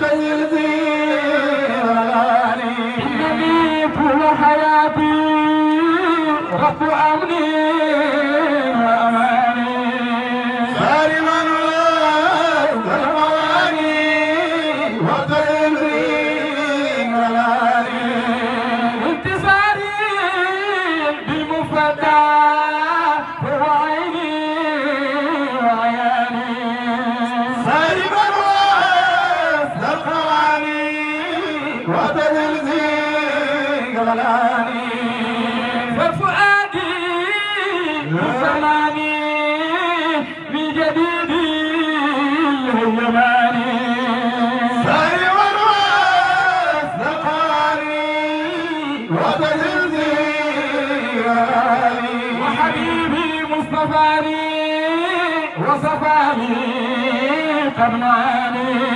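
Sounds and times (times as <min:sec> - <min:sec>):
men chanting into microphones: 0:00.0 - 0:58.9.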